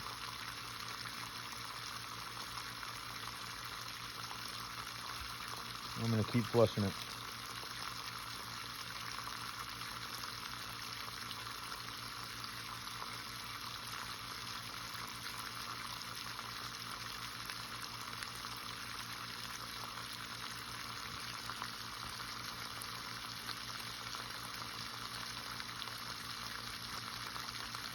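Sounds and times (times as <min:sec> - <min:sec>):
water splashing from drain hose: 0:00.0 - 0:27.9.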